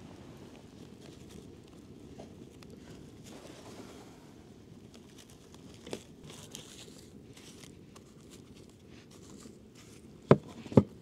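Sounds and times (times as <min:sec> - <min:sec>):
crinkling and handling noises: 0:00.0 - 0:11.0.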